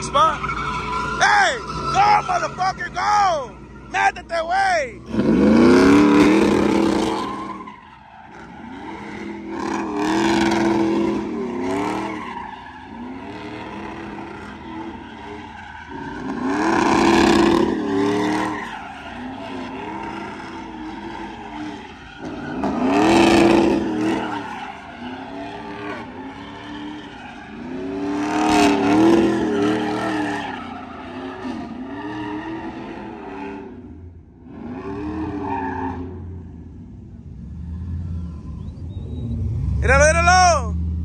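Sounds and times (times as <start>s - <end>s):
truck engine revving hard: 0.0s - 7.7s, 8.3s - 36.2s
tires squealing on pavement: 0.0s - 41.0s.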